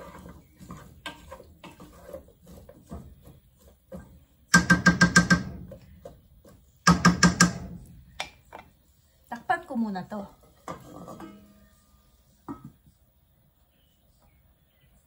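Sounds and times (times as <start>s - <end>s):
wooden spoon stirring in metal pot: 0.0s - 13.1s.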